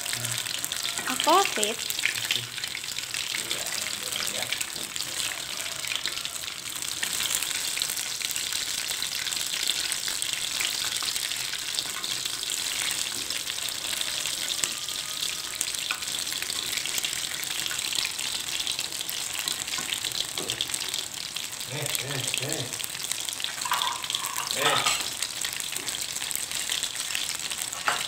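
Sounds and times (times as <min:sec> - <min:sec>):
food deep-frying in oil: 0:00.0 - 0:28.0.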